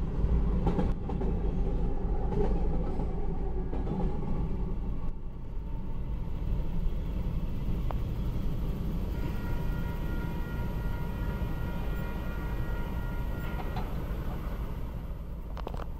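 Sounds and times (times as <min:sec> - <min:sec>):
freight train rumble: 0:00.0 - 0:15.9.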